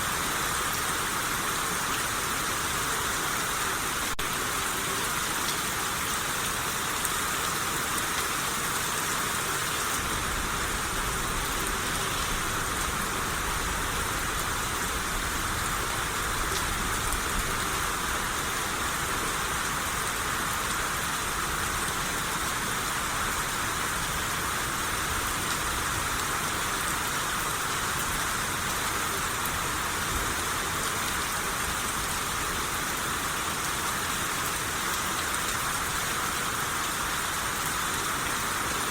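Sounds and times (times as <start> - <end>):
rain shower hissing: 0.0 - 38.9.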